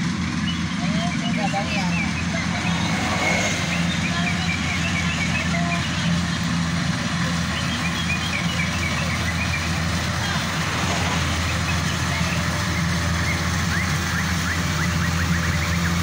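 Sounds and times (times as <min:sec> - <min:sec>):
birds chirping: 0:00.0 - 0:16.0
combine harvester engine hum: 0:00.0 - 0:16.0.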